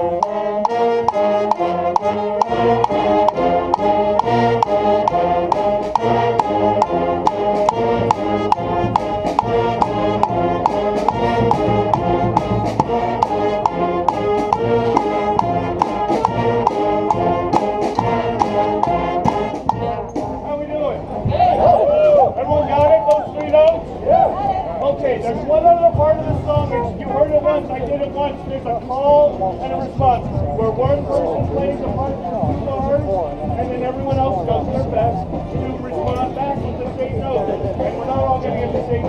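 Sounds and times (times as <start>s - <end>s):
brass band with drums: 0.0s - 23.3s, 23.9s - 39.0s.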